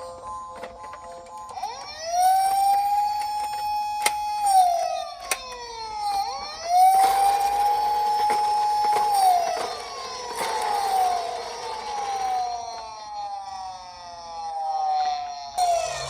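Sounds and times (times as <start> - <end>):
toy electronic wail siren: 0.0 - 16.0.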